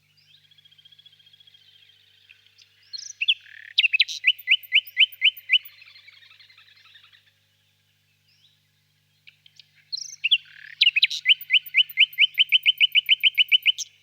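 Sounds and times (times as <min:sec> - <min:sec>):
nightingale singing: 0:00.0 - 0:07.2, 0:09.2 - 0:14.0.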